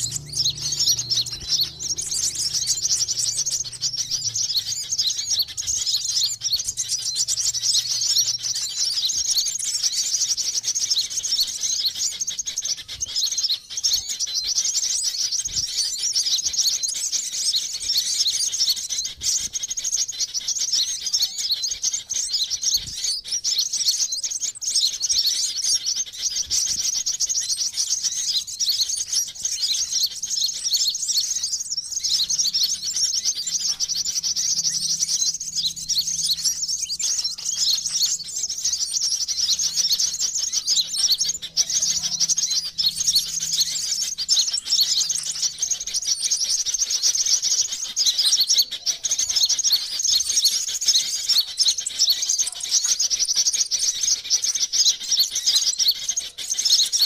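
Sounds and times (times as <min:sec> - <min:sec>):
sunbirds chirping and twittering: 0:00.0 - 0:57.0.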